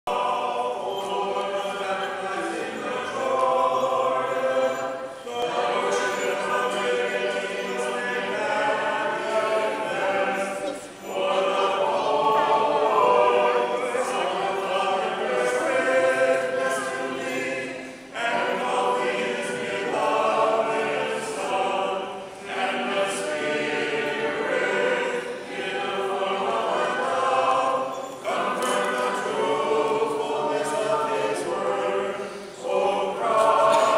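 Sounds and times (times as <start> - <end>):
group singing a cappella hymn: 0.0 - 33.9.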